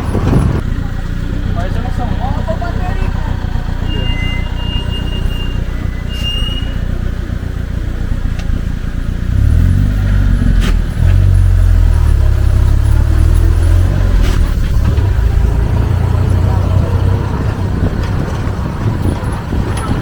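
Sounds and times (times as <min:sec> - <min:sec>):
vehicle engine driving on dirt road: 0:00.0 - 0:20.0.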